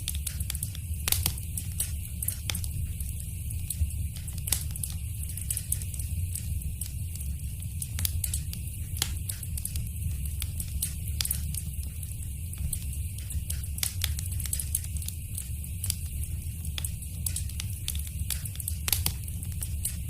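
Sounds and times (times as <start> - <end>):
fire crackling: 0.0 - 20.0
sharp pops and snaps: 0.0 - 20.0.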